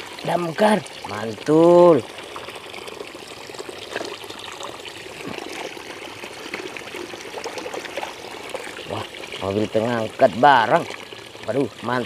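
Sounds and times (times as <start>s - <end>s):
water pouring into tub: 0.0s - 12.0s.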